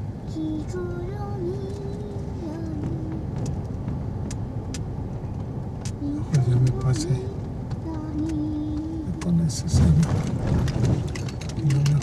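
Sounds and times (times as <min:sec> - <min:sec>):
engine and tyre rumble: 0:00.0 - 0:12.0.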